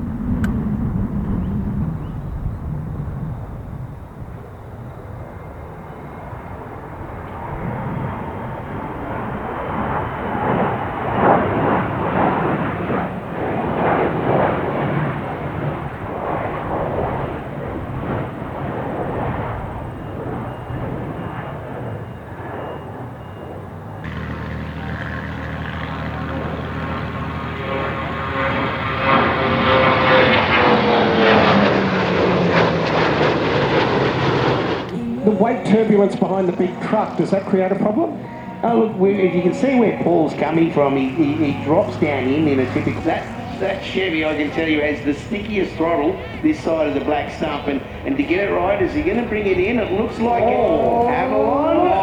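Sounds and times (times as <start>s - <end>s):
aircraft engines flying past: 0.0s - 52.0s.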